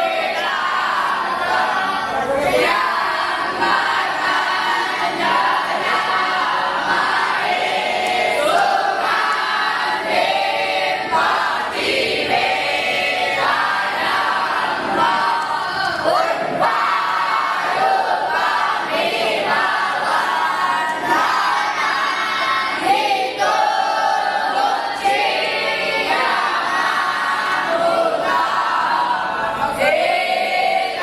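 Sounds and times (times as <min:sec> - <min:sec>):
group chanting in unison: 0:00.0 - 0:31.0.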